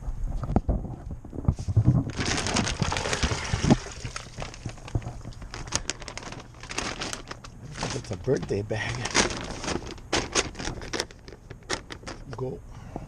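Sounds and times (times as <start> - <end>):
bag rustling and crinkling: 0.7 - 12.5.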